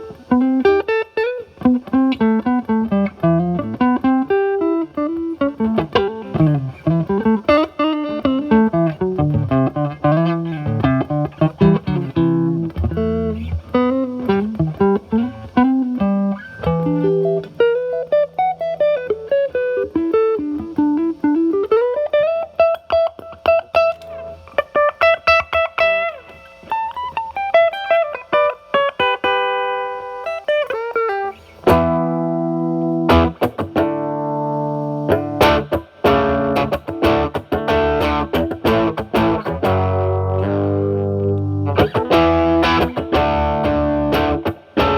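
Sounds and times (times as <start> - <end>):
electric guitar chords: 0.0 - 44.9
overdriven electric guitar lead: 0.0 - 44.9.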